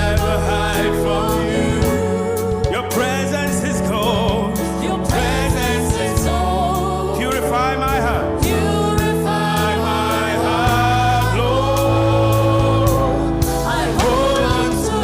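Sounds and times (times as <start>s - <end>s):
band playing: 0.0s - 15.0s
voices singing gospel song: 0.0s - 15.0s.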